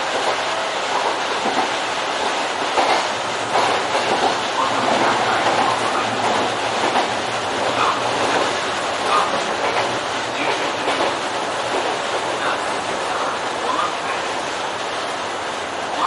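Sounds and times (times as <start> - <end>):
train clatter: 0.0 - 16.0
train wheels rolling on rail: 0.0 - 16.0.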